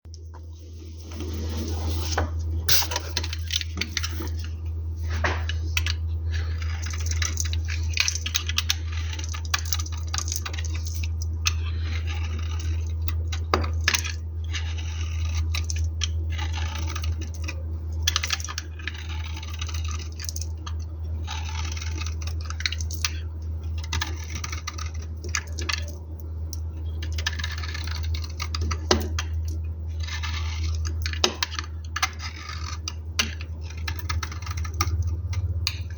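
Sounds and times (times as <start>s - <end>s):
steady low hum: 0.0s - 35.9s
knife cutting soap: 5.4s - 26.0s, 26.9s - 35.9s.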